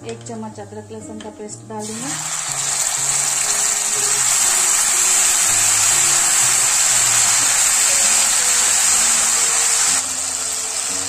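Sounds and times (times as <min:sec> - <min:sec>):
soft background music: 0:00.0 - 0:11.0
spices sizzling in hot oil: 0:01.8 - 0:11.0.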